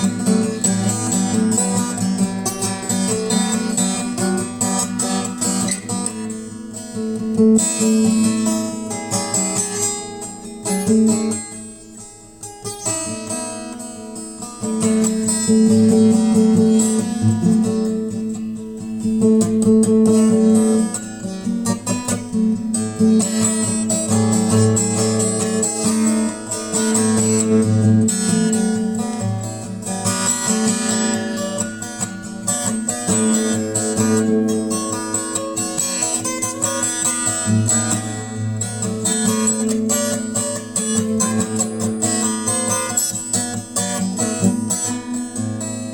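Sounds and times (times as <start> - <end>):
acoustic guitar strumming: 0.0 - 45.9.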